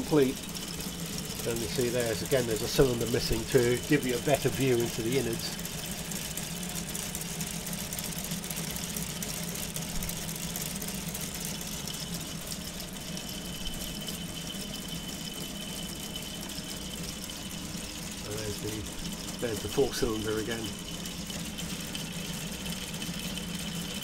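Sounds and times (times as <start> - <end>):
motor and plastic gears whirring: 0.0 - 24.0.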